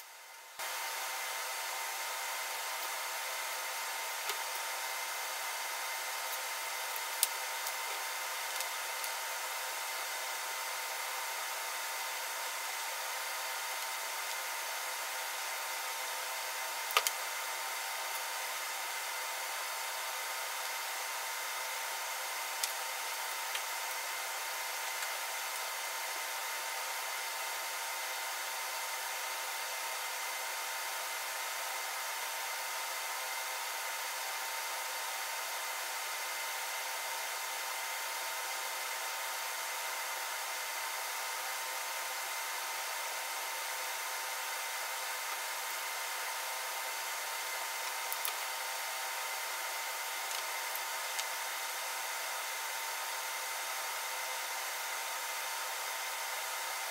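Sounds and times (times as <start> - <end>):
workshop background hiss: 0.0 - 56.9.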